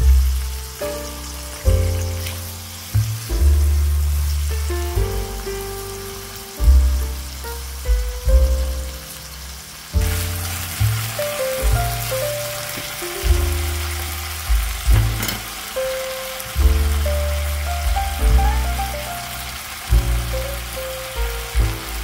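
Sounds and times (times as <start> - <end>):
background music with deep bass: 0.0 - 15.8, 16.5 - 22.0
chicken sizzling in a frying pan: 0.0 - 22.0.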